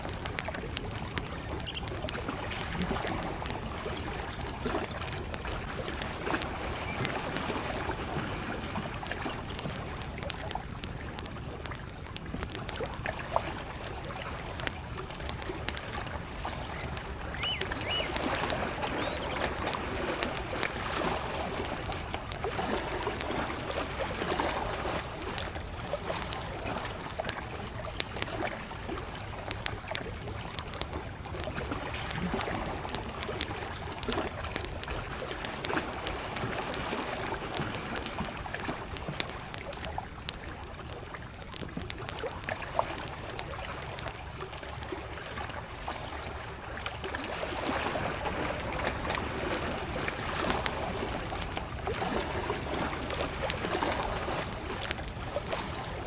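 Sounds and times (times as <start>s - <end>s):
campfire crackling and popping: 0.0s - 56.0s
small waves lapping: 0.0s - 56.0s.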